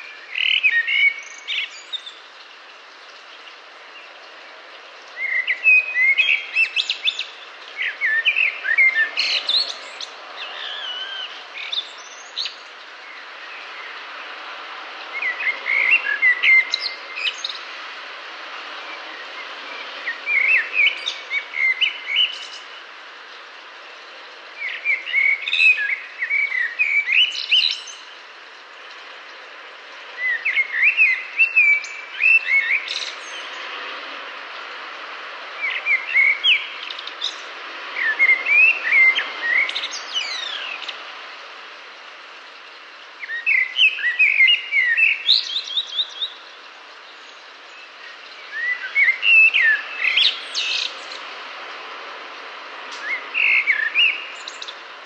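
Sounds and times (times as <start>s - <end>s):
songbird chirping: 0.0s - 17.8s, 18.6s - 55.0s
background hiss: 0.0s - 55.0s.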